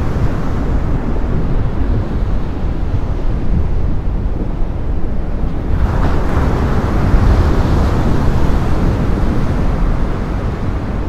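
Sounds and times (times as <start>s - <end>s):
heavy ocean surf: 0.0s - 11.0s
wave crashing: 0.0s - 11.0s
wind buffeting the microphone: 0.0s - 11.0s.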